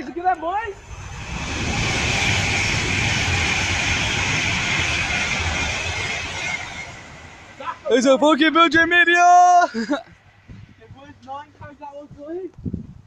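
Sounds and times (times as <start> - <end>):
train passing: 0.0 - 12.2.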